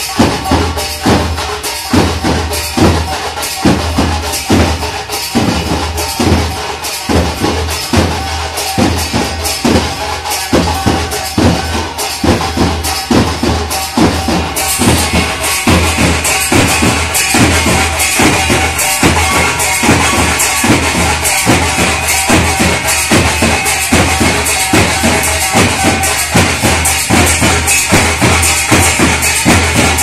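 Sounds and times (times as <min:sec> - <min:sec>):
barrel drum beating: 0:00.0 - 0:30.0
bright metallic jangle: 0:00.0 - 0:30.0.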